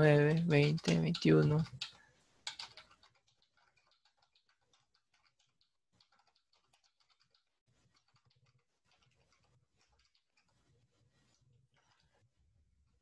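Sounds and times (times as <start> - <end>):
faint keyboard typing: 0.0 - 12.2.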